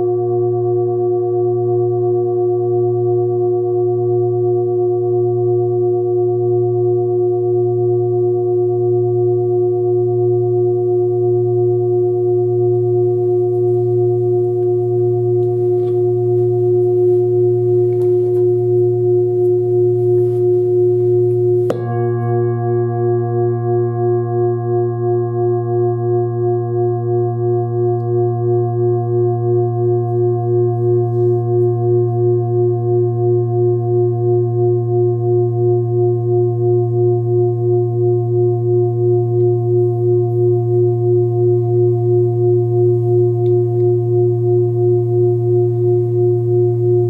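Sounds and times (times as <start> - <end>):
singing bowl ringing: 8.8 - 47.0.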